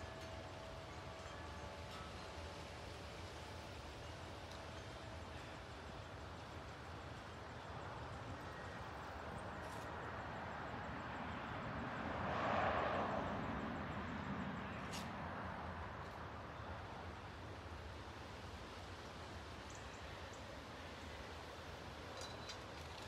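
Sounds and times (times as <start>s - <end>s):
jet airliner rumble overhead: 1.7s - 23.0s.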